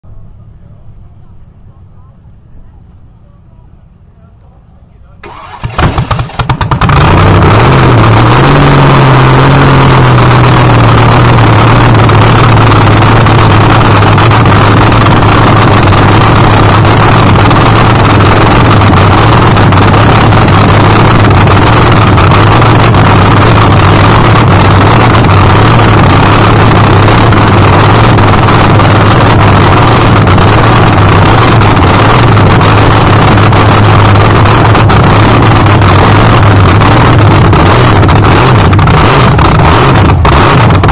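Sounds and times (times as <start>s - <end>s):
dragster engine idling loudly: 5.2s - 40.9s.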